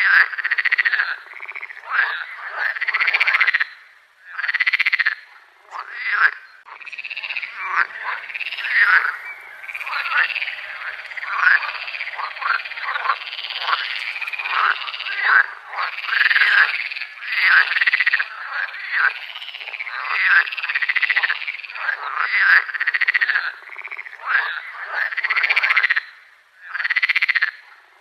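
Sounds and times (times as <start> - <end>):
frogs calling in chorus: 0.0 - 28.0.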